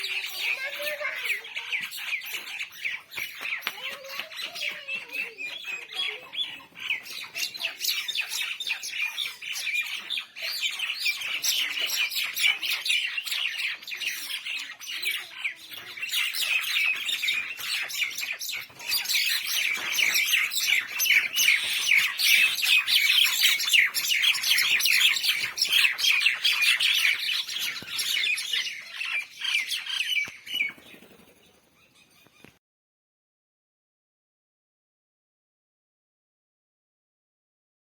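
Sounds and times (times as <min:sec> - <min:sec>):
birds chattering: 0:00.0 - 0:32.6.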